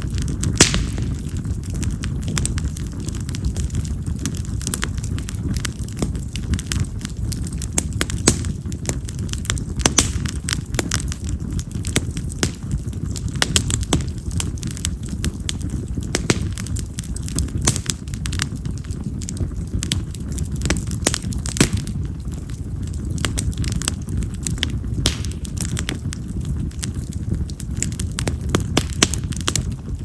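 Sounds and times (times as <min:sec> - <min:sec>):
fire crackling and popping: 0:00.0 - 0:30.0
low fire rumble: 0:00.0 - 0:30.0.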